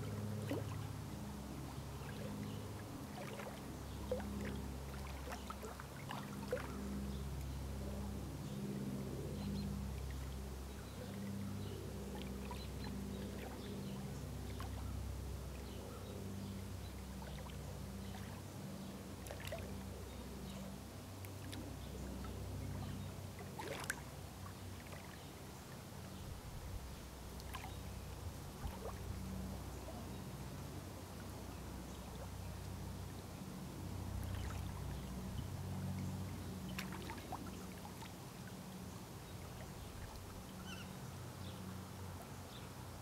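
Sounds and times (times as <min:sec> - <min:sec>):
soft splashes and ticks: 0:00.0 - 0:07.8, 0:09.4 - 0:26.2, 0:27.0 - 0:33.0, 0:34.0 - 0:42.3
low steady hum: 0:00.0 - 0:43.0
small waves lapping at shore: 0:00.0 - 0:43.0.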